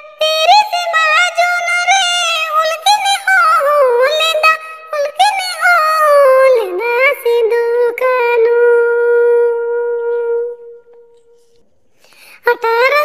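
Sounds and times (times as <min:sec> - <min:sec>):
high voice singing: 0:00.0 - 0:11.5.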